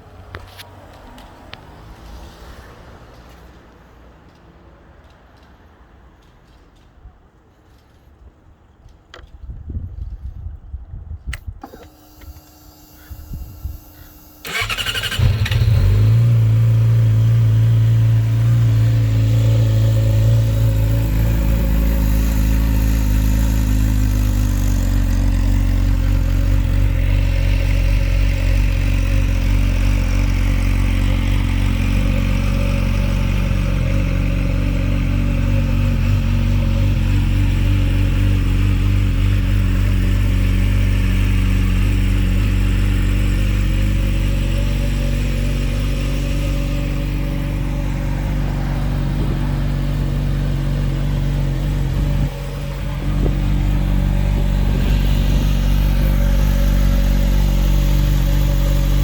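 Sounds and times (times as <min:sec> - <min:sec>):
motorcycle engine starting and idling: 0:11.2 - 0:59.0.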